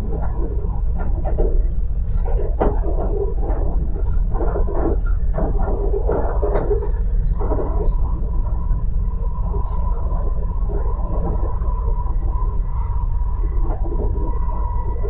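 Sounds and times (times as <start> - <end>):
steady high whine: 0.0 - 15.0
train rumble: 0.0 - 15.0.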